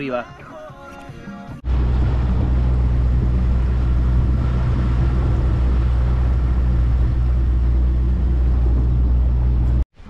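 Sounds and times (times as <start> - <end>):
boat motor running: 1.6 - 9.8
water rushing along a hull: 1.6 - 9.8.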